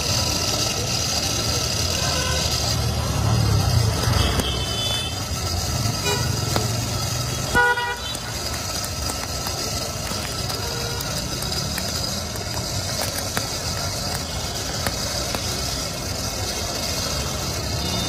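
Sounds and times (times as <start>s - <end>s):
small blower whirring: 0.0s - 18.0s
street traffic: 0.0s - 18.0s.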